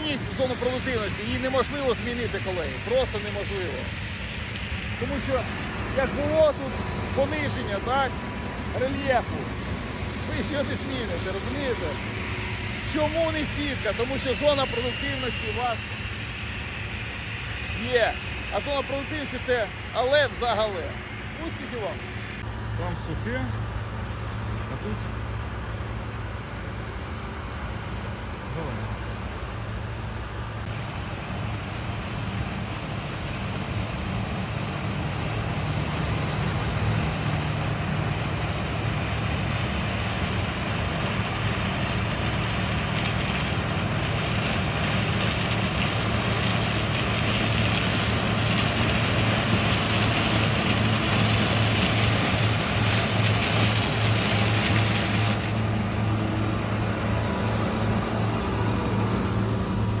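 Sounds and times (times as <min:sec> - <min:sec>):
broad rushing noise: 0:00.0 - 1:00.0
farm machinery engine hum: 0:00.0 - 1:00.0.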